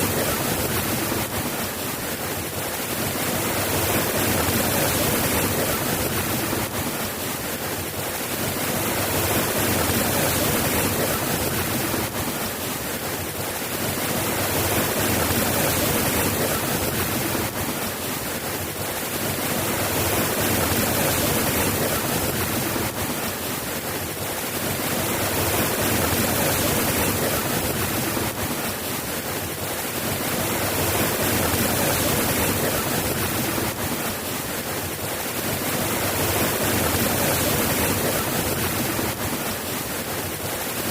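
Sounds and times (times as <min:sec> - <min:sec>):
soft rain falling: 0:00.0 - 0:40.9.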